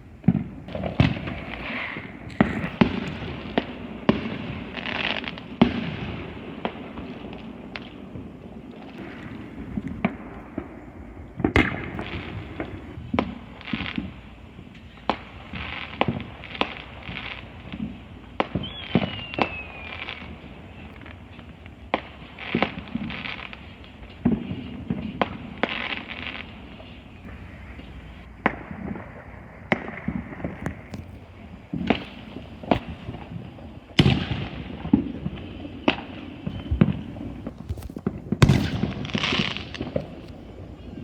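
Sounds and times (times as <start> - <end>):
fireworks bangs and pops: 0.2 - 40.7
falling firework whistle: 0.7 - 7.1, 8.9 - 41.0.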